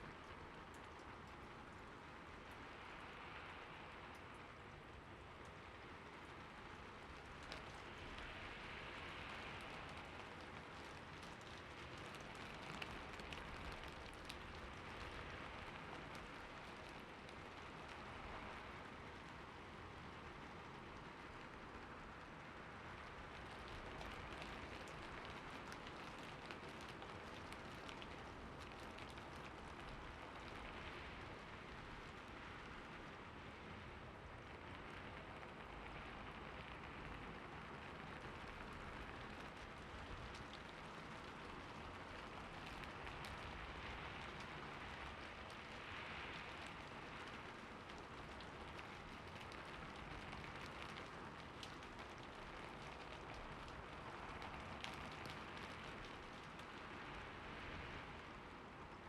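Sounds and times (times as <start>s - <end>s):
raindrops pattering on surface: 0.0s - 59.0s
steady rain falling: 0.0s - 59.0s.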